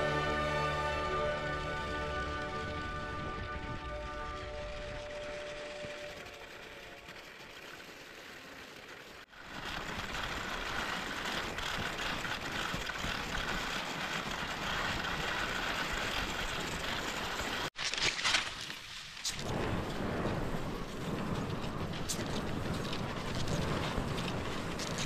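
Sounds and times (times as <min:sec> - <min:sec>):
skis sliding over crusted snow: 0:00.0 - 0:25.0.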